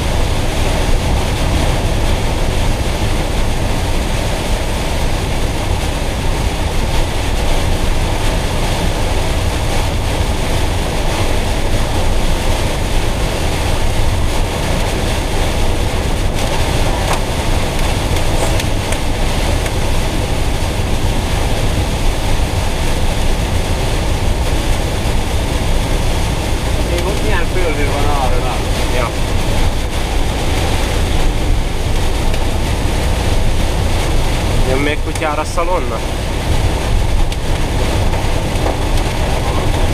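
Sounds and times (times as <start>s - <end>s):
low road rumble: 0.0s - 39.9s
rain on windscreen and roof: 0.0s - 39.9s
tyres on wet road: 0.0s - 39.9s.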